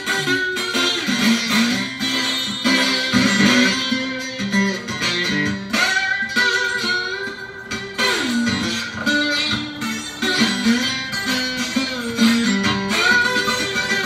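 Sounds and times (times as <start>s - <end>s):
amplified blues guitar: 0.0s - 14.0s.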